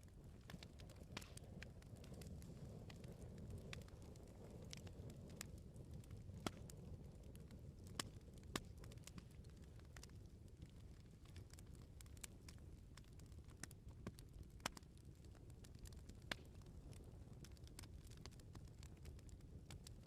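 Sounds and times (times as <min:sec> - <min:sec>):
bonfire crackling: 0:00.0 - 0:20.0.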